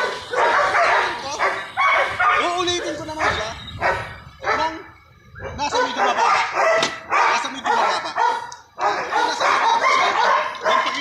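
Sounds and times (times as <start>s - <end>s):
dog barking and yapping: 0.0s - 11.0s.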